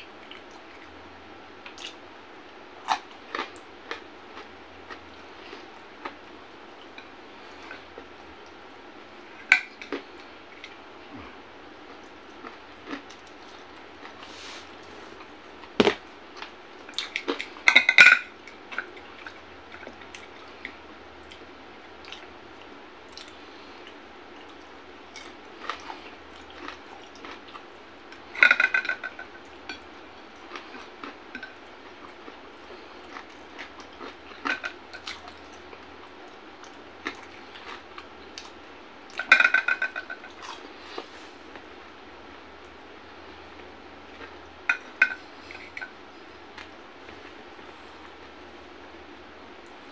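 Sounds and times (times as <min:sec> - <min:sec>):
chewing and wet mouth sounds: 0:00.0 - 0:49.9.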